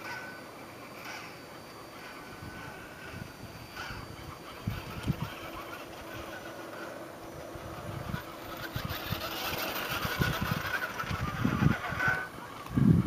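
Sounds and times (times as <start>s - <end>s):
toy car electric motor whining: 0.0s - 13.0s.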